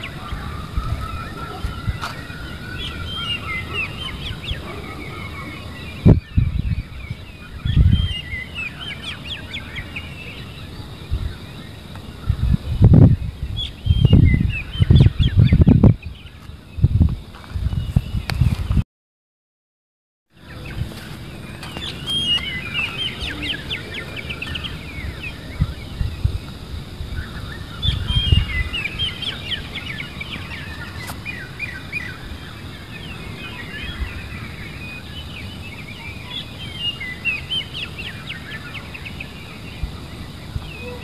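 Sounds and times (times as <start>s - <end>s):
small birds chirping: 0.0s - 18.8s, 20.3s - 41.0s.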